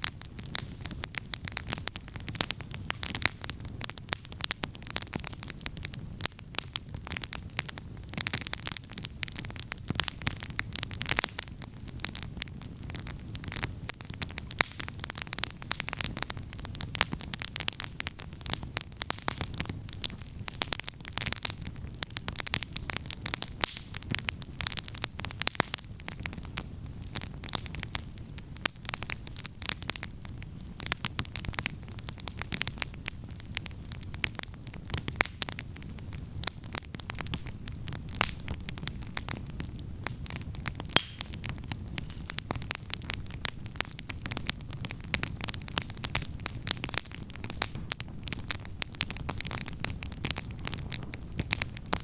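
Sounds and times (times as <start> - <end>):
campfire crackling: 0.0 - 52.0
low fire rumble: 0.0 - 52.0
sharp snaps and pops: 0.0 - 52.0.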